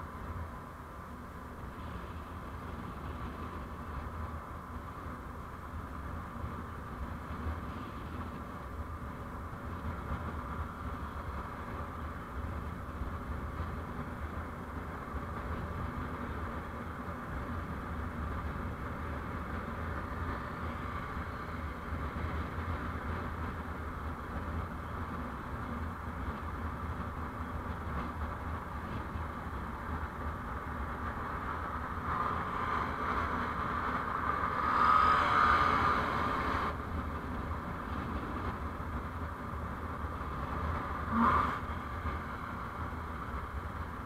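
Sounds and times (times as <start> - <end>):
vehicle engine and road noise: 0.0 - 44.0.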